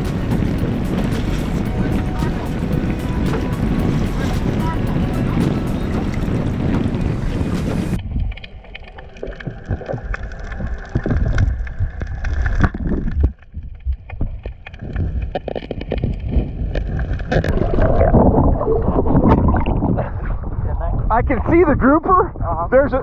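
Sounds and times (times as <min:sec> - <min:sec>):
muffled underwater rumble: 0:00.0 - 0:23.0
underwater crackles and clicks: 0:00.0 - 0:23.0.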